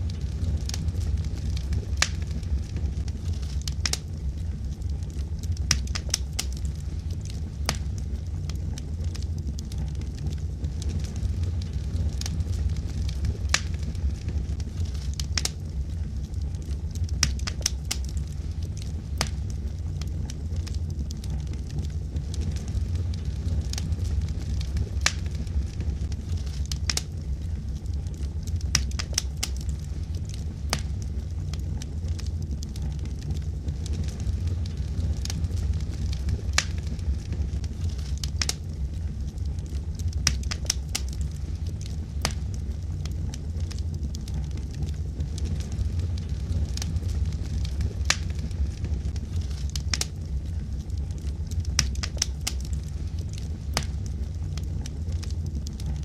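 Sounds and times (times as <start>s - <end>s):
fire rumbling in fireplace: 0.0s - 56.0s
logs crackling and popping: 0.0s - 56.0s.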